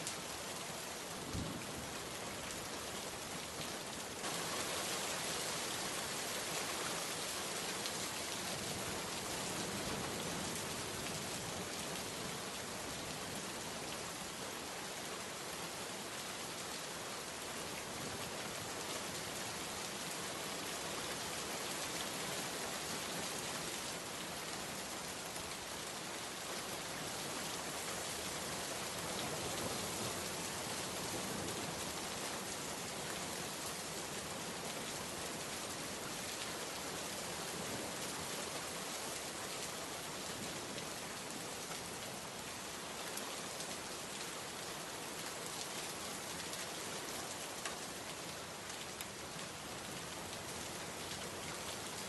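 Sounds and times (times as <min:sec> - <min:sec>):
heavy rain falling: 0:00.0 - 0:14.8, 0:16.9 - 0:52.0.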